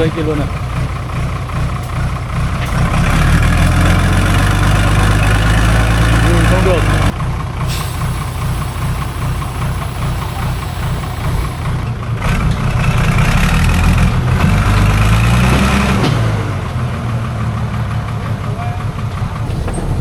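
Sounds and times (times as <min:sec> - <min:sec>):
truck engine revving under load: 0:00.0 - 0:20.0.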